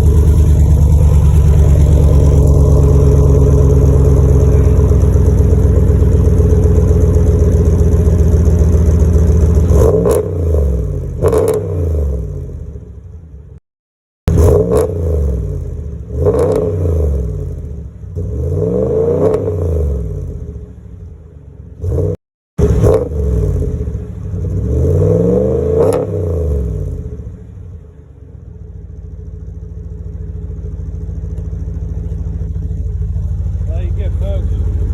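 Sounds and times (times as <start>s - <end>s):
truck engine idling and revving: 0.0s - 13.6s, 14.2s - 34.9s.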